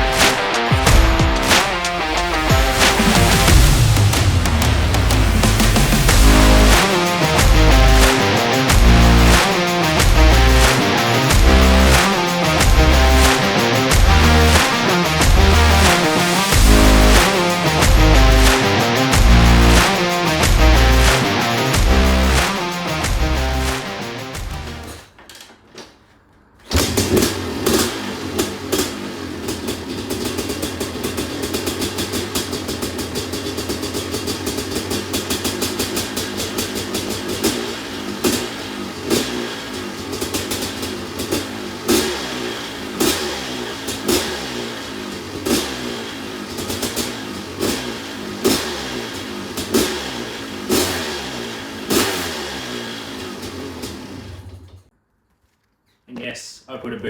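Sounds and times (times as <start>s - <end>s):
two-stroke engine throttle blips: 0.0s - 25.0s, 26.6s - 54.9s.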